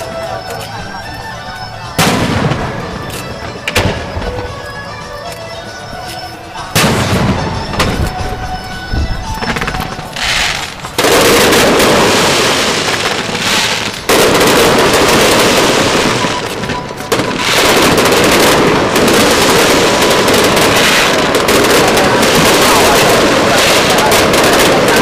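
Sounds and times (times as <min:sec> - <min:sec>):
fireworks crackling and popping: 0:01.9 - 0:05.3, 0:06.6 - 0:25.0.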